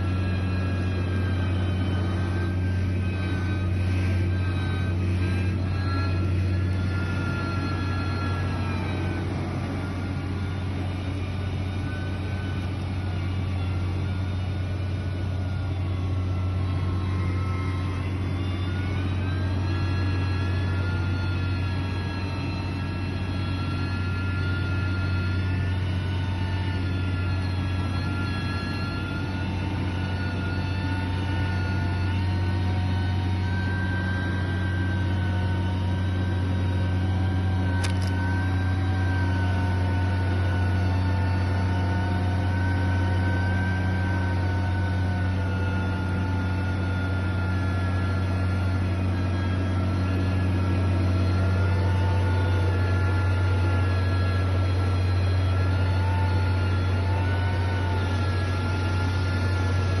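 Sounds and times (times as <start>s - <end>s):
heavy machine engine droning: 0.0s - 60.0s.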